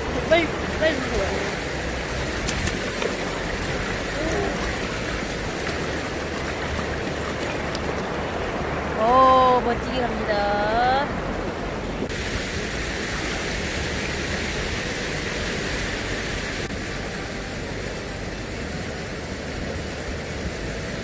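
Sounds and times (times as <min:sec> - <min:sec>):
shallow sea water washing: 0:00.0 - 0:20.9.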